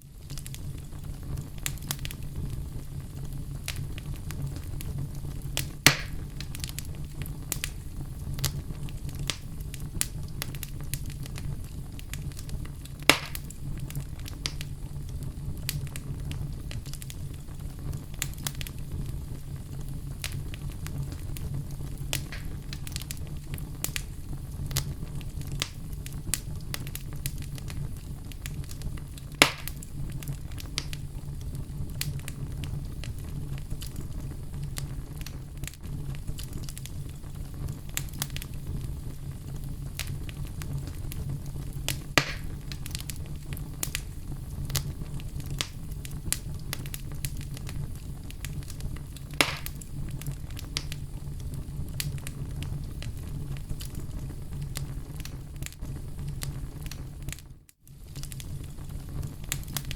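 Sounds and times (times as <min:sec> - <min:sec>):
sharp pops from fire: 0:00.0 - 0:59.9
wood fire crackling: 0:00.0 - 0:59.9.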